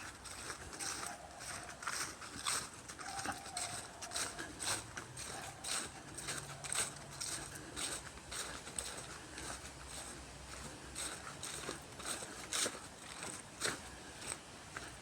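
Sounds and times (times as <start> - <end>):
footsteps in dry leaves: 0.0 - 15.0.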